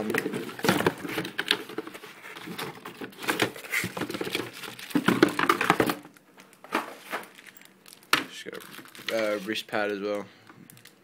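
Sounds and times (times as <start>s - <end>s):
packaging rustling and crinkling: 0.0s - 9.8s.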